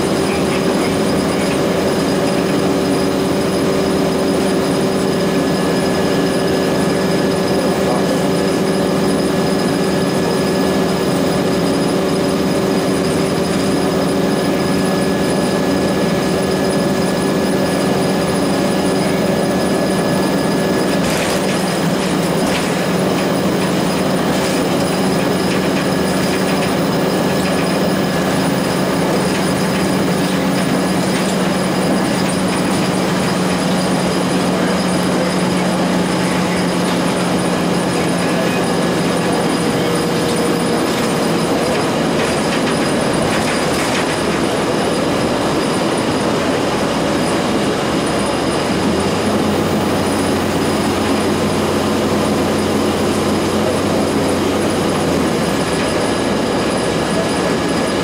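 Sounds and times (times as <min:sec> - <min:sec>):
diesel bus engine droning: 0:00.0 - 0:58.0
road and tyre noise: 0:00.0 - 0:58.0.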